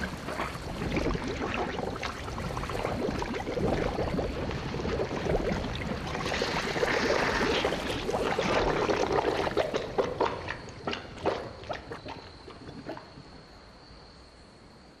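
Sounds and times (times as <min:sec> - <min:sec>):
bubbles popping: 0:00.0 - 0:13.3
water gurgling and sloshing: 0:00.0 - 0:14.2.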